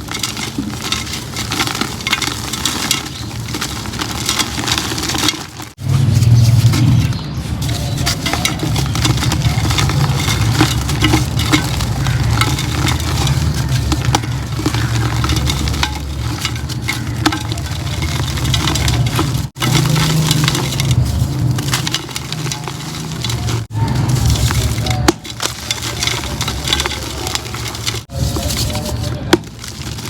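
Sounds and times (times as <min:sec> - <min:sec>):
concrete crumbling crackles: 0:00.0 - 0:30.0.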